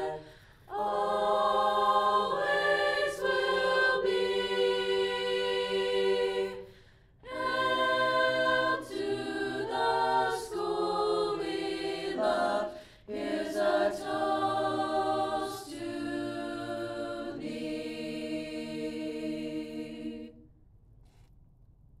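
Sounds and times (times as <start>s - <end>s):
choir singing in harmony: 0.0s - 20.4s.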